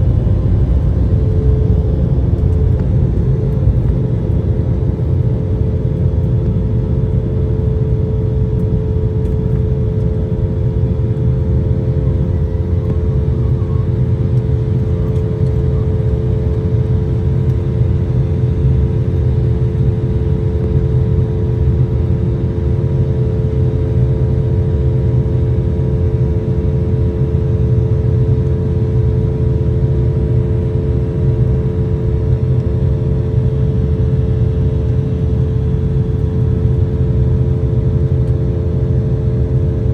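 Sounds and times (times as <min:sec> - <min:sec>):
constant tonal hum: 0:00.0 - 0:39.9
jet cabin engine rumble: 0:00.0 - 0:39.9.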